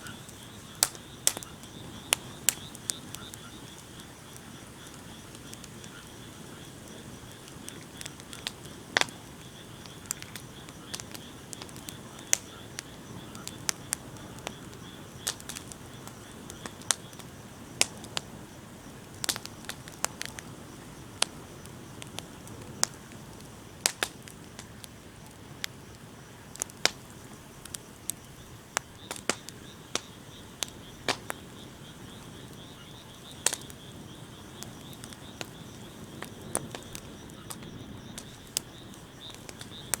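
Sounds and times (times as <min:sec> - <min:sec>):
bonfire crackling and popping: 0:00.0 - 0:40.0
low hiss of burning: 0:00.0 - 0:40.0.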